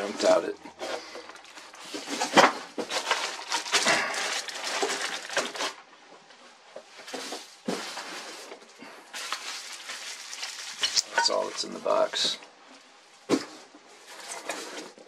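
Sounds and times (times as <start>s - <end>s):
cardboard and packing rustling: 0.0s - 12.4s, 13.2s - 15.0s.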